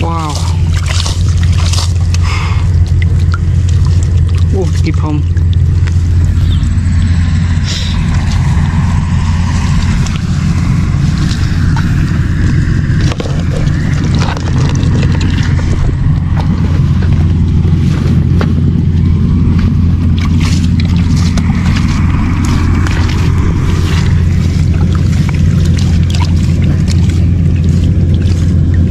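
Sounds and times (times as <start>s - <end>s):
engine droning: 0.0s - 28.9s
light splashing: 0.0s - 28.9s.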